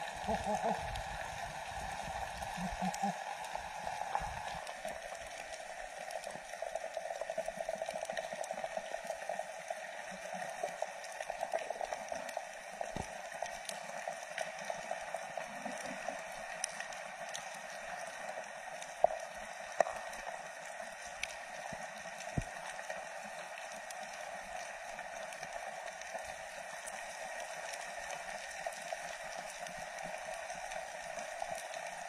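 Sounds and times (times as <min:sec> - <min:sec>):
faint underwater clicks and crackles: 0:00.0 - 0:32.0
muffled underwater hiss: 0:00.0 - 0:32.0.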